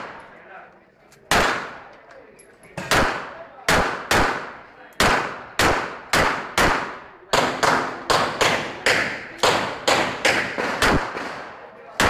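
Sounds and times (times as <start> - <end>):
pistol shots: 1.3 - 1.8, 2.8 - 12.0.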